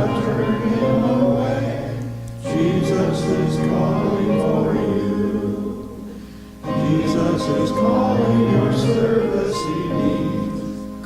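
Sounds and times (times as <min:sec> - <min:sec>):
congregation singing a hymn: 0:00.0 - 0:11.0.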